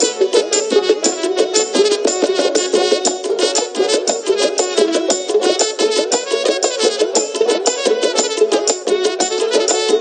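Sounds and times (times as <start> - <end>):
harmonium: 0.0 - 10.0
plucked folk lute: 0.0 - 10.0
trumpet: 0.0 - 10.0.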